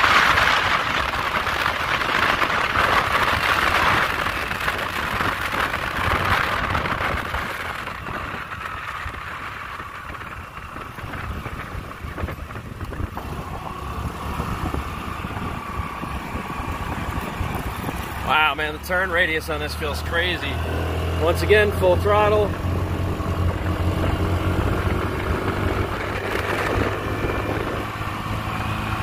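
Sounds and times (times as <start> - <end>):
road noise: 0.0 - 29.0
scooter engine drone: 0.0 - 29.0
wind rush: 0.0 - 29.0.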